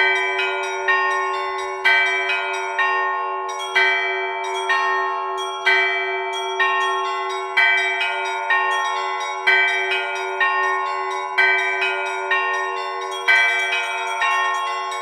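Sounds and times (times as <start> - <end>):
low bell tone: 0.0 - 15.0
small church bells ringing: 0.0 - 15.0.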